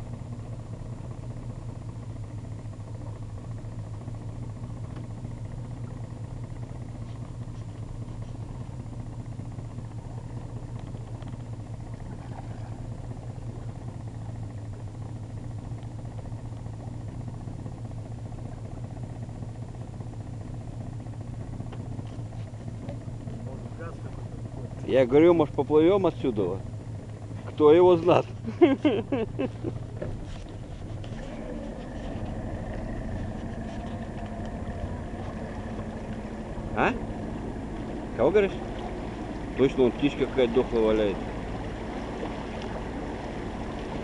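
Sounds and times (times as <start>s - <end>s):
motorboat engine idling: 0.0s - 44.0s.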